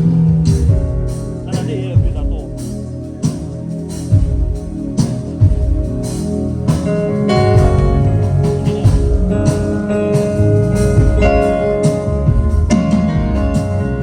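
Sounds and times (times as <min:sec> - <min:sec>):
bass: 0:00.0 - 0:14.0
drum and cymbal strikes: 0:00.0 - 0:14.0
guitar playing held notes: 0:00.8 - 0:14.0.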